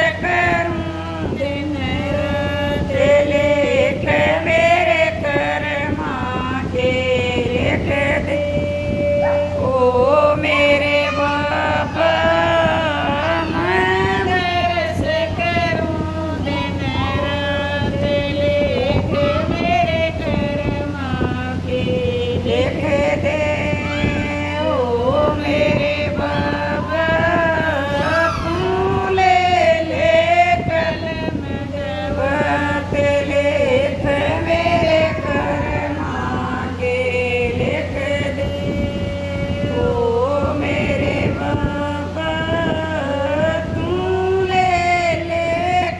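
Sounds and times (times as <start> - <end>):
women singing devotional song: 0.0 - 45.9.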